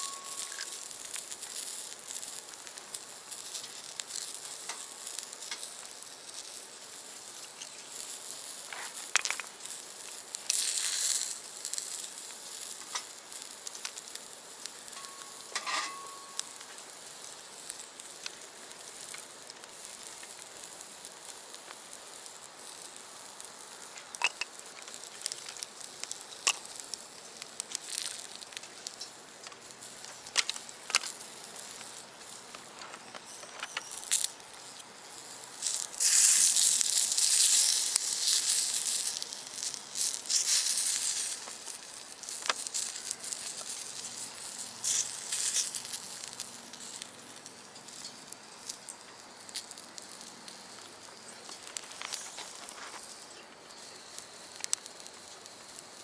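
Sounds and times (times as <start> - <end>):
food sizzling in a skillet: 0.0 - 56.0
sharp pops and crackles: 0.0 - 56.0.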